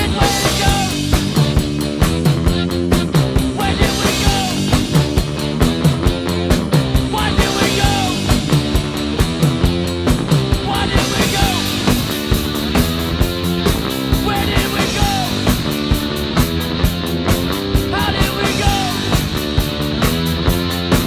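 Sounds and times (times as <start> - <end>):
rock music with guitars and drums: 0.0 - 21.0.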